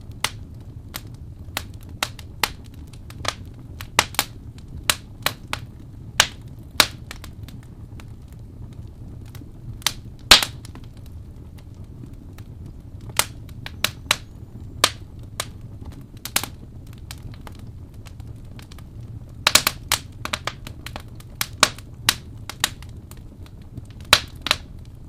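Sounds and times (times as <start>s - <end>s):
fireplace fire crackling: 0.0s - 25.0s
low steady rumble: 0.0s - 25.0s.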